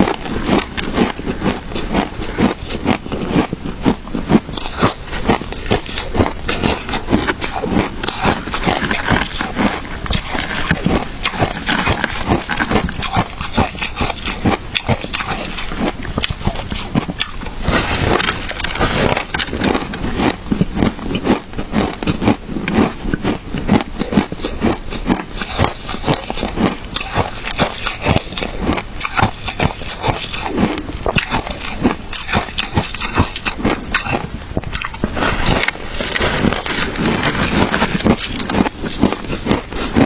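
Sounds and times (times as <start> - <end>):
crunching and chewing shaved ice: 0.0 - 40.0.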